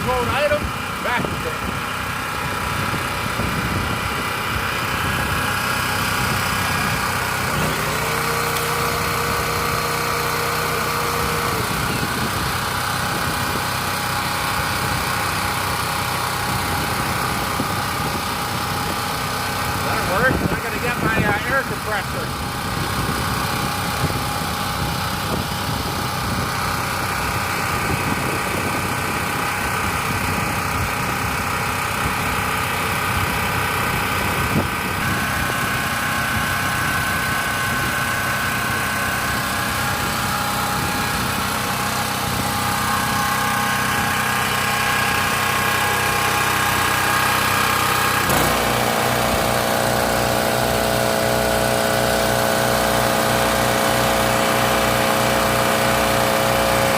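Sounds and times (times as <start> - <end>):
air compressor pulsing: 0.0 - 56.9
portable generator running: 0.0 - 56.9.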